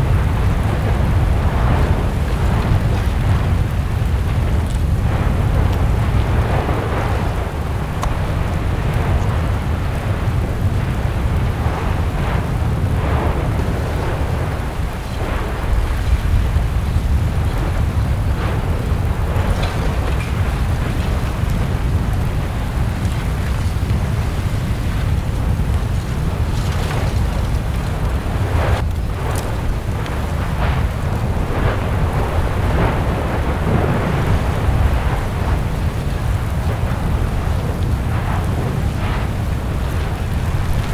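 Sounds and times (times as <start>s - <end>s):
lava spattering: 0.0s - 40.9s
rushing surges: 0.0s - 40.9s
volcanic vent rumbling: 0.0s - 40.9s.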